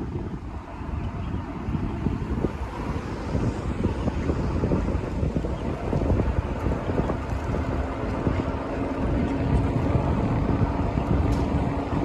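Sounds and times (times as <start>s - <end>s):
vehicle noise: 0.0s - 12.0s
wind buffeting microphone: 0.0s - 12.0s.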